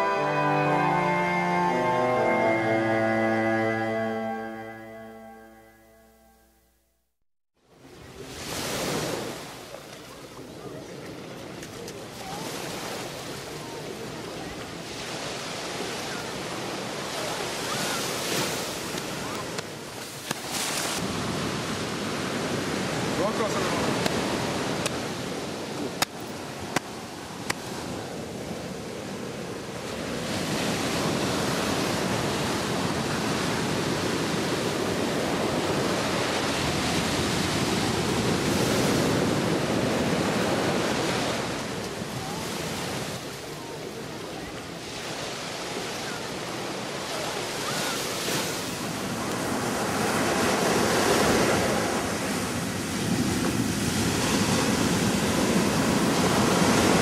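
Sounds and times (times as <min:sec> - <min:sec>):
ocean surf on sand: 0:07.7 - 0:57.0.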